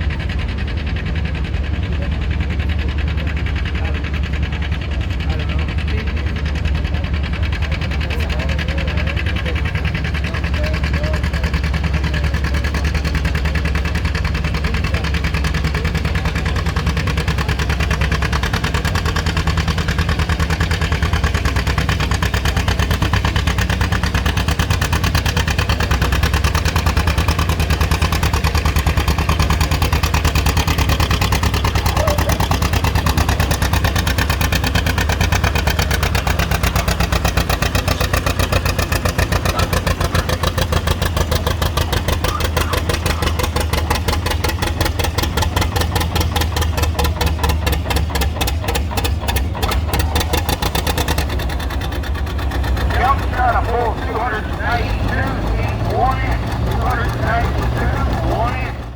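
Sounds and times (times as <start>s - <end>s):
diesel tractor engine under load: 0.0s - 58.9s.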